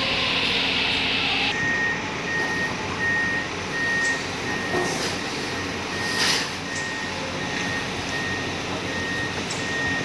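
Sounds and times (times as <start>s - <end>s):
diesel engine running: 0.0s - 10.0s
excavator travel alarm beeping: 1.4s - 10.0s.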